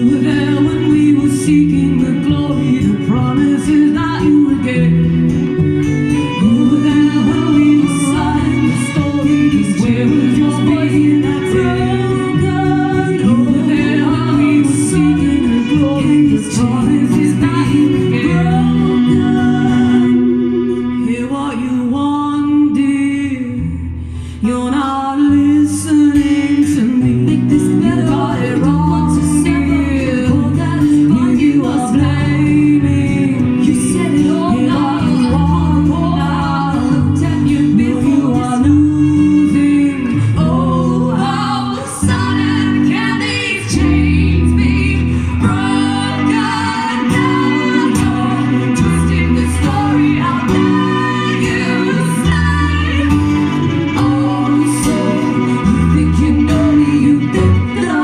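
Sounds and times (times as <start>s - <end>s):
bass line: 0.0s - 58.0s
guitar: 0.0s - 58.0s
women singing: 0.0s - 58.0s.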